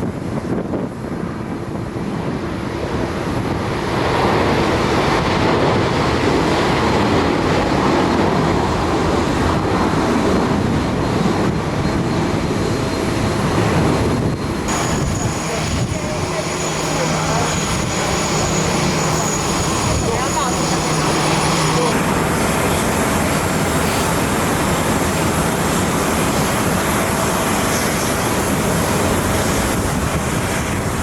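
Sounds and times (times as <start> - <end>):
jet engines roaring at takeoff: 0.0 - 31.0.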